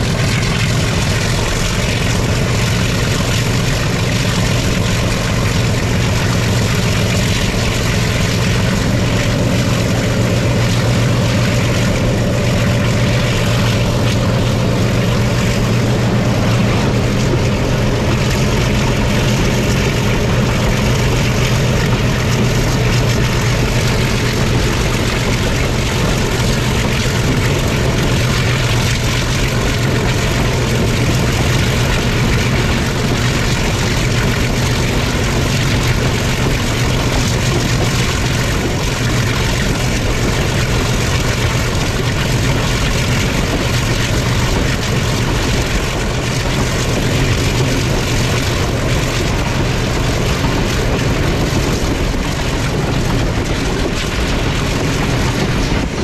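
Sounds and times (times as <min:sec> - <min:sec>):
diesel locomotive engine throbbing: 0:00.0 - 0:56.0.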